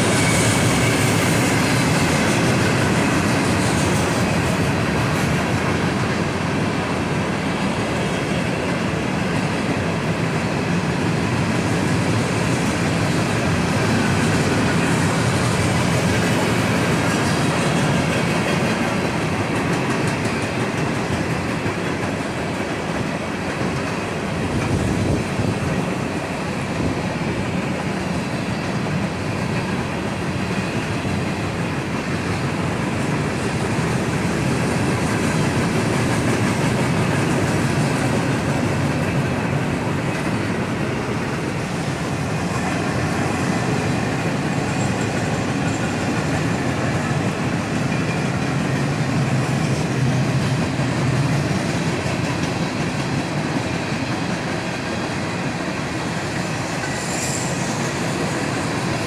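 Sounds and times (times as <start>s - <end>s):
train wheels on rails: 0.0s - 59.0s.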